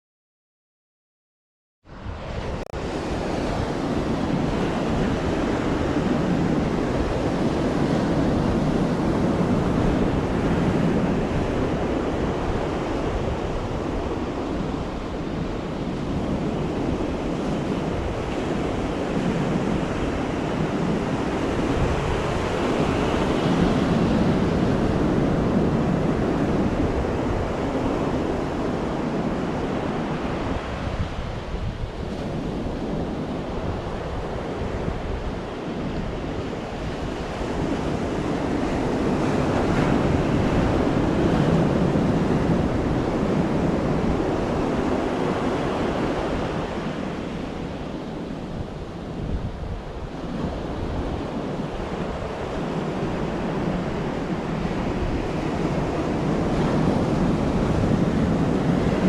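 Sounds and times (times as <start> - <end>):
waves washing on a beach: 1.9 - 59.0
wind rumble on microphone: 1.9 - 59.0.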